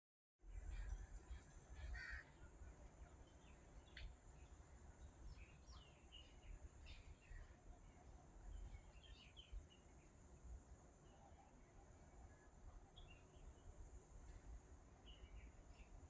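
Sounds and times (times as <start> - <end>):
small birds chirping: 0.4 - 16.0.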